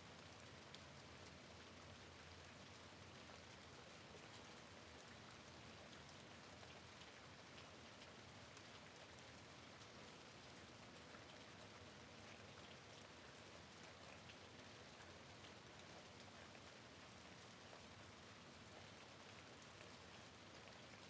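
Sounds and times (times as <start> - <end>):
rain pattering on window: 0.1 - 21.0.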